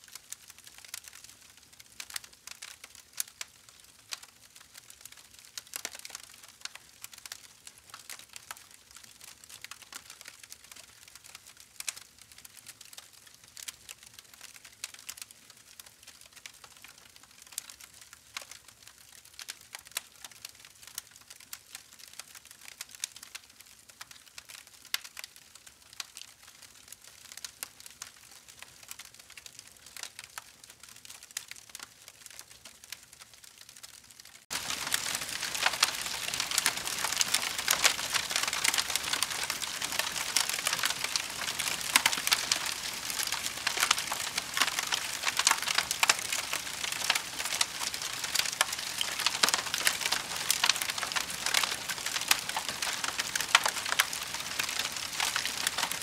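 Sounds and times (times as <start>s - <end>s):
campfire wood crackling and popping: 0.0s - 56.0s.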